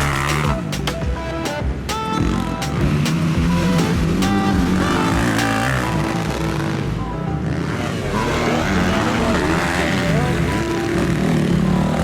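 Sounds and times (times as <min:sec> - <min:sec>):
dirt bike engines revving: 0:00.0 - 0:12.0
music playing: 0:00.0 - 0:12.0.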